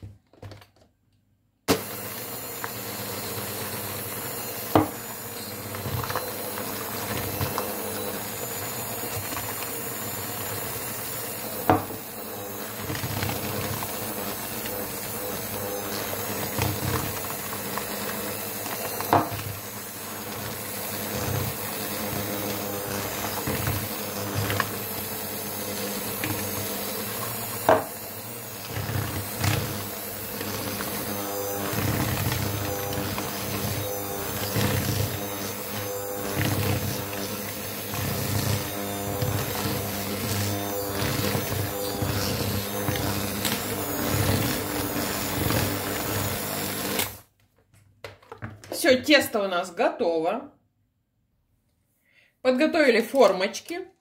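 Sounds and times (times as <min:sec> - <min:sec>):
electric hand mixer running: 0:01.7 - 0:47.3.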